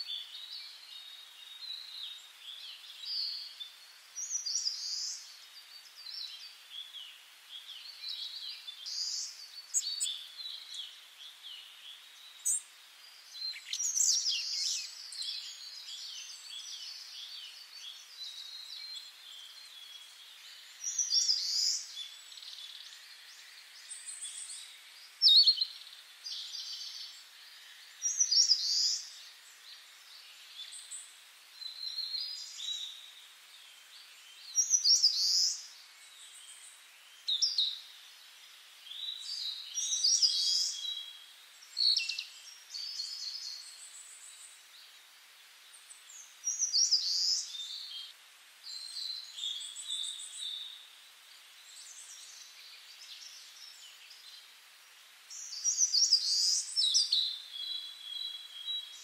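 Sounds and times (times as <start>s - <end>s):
faint background hiss: 0.0s - 59.0s
songbirds chirping: 0.0s - 59.0s.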